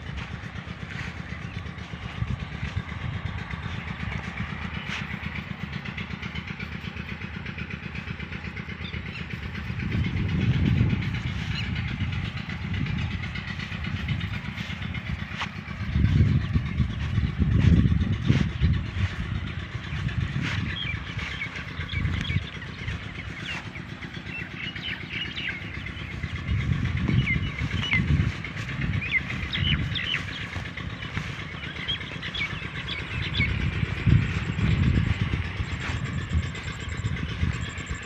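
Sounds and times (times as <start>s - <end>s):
birds chirping: 0.0s - 38.0s
vehicles passing: 0.0s - 38.0s.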